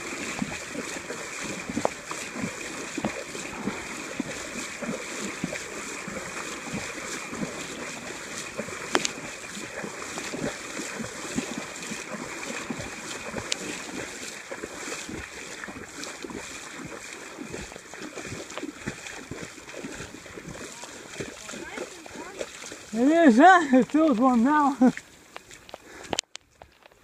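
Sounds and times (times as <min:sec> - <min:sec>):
river water rushing around legs: 0:00.0 - 0:27.0
water splashes: 0:00.0 - 0:27.0.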